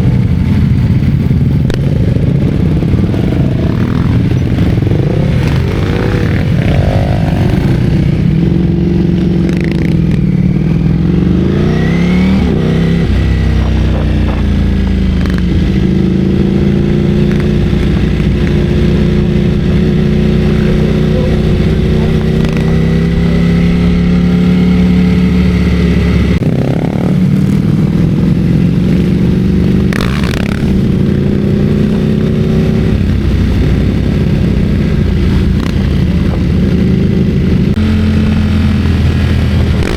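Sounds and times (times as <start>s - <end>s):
motorcycle engine running: 0.0s - 39.9s
rush of wind: 0.0s - 39.9s.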